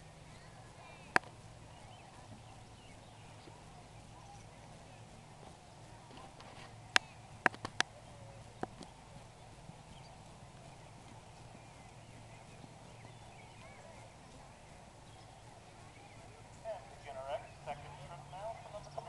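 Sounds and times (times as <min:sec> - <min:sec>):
horse cantering: 0:00.0 - 0:19.0.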